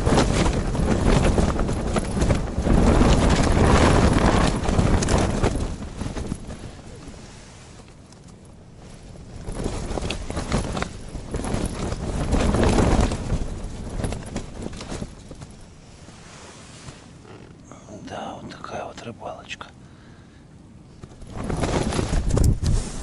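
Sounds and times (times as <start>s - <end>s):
tent fabric flapping: 0.0s - 17.7s, 20.8s - 23.0s
wind gusts: 0.0s - 23.0s.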